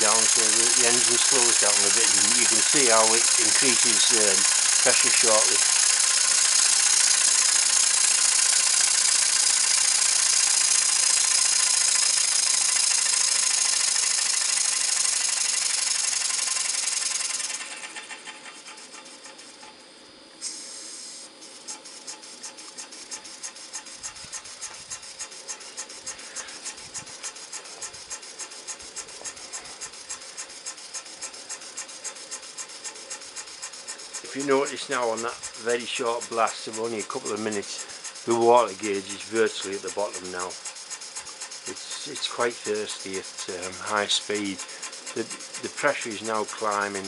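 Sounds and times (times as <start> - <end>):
steam engine exhaust rasping: 0.0 - 47.0.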